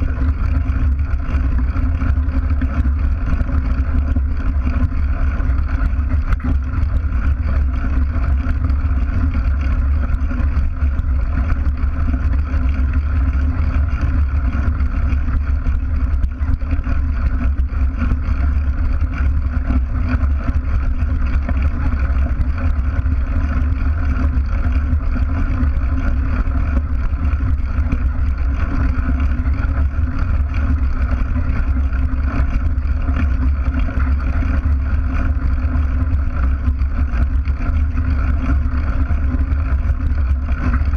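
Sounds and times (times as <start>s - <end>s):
bike frame vibration: 0.0s - 40.9s
bike tyres rumbling over gravel: 0.0s - 40.9s.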